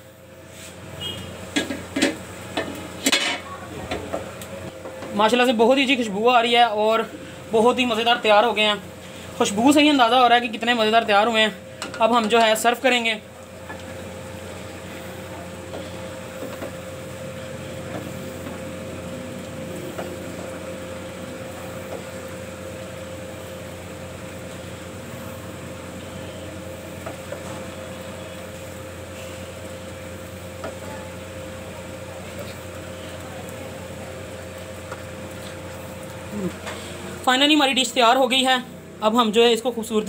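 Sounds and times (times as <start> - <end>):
machine hum with whine: 0.0 - 40.0.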